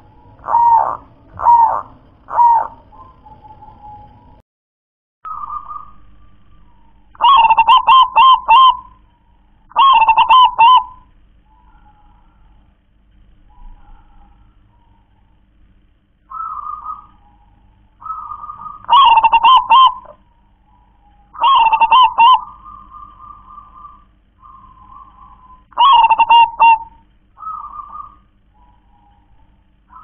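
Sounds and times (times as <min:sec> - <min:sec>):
dove cooing: 0:00.0 - 0:04.4, 0:05.3 - 0:12.8, 0:13.4 - 0:15.4, 0:16.3 - 0:30.0.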